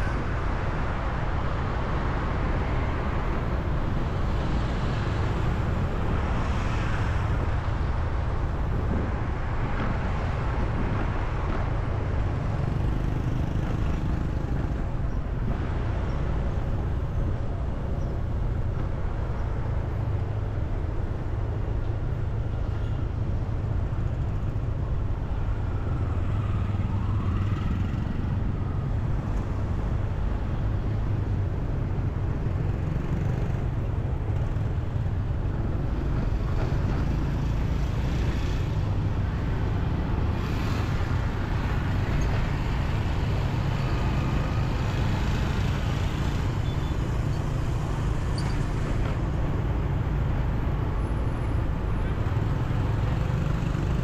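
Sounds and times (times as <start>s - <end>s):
car and motorbike engines rumbling: 0.0s - 54.0s
vehicles passing close by: 0.0s - 54.0s.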